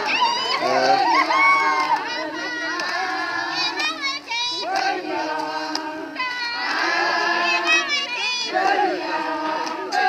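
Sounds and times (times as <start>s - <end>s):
women singing together: 0.0s - 10.0s.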